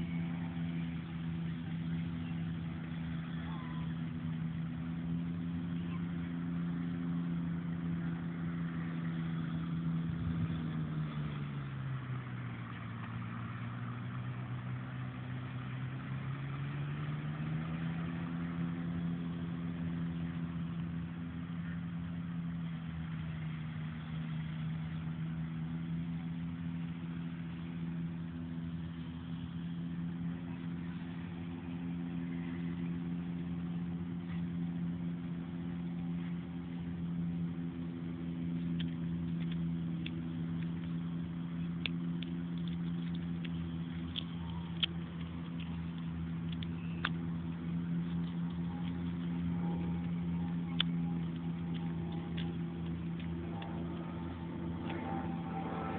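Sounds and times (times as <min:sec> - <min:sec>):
engine running: 0:00.0 - 0:55.9.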